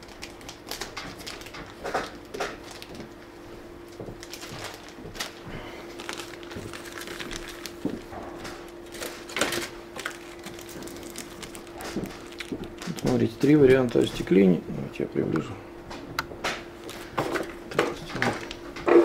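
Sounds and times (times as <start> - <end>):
plastic bag crinkling: 0.0 - 3.2, 4.1 - 14.5, 16.8 - 18.6.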